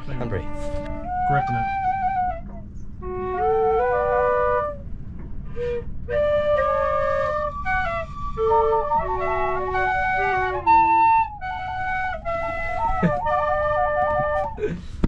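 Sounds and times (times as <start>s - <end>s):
wooden flute playing: 0.0s - 15.0s.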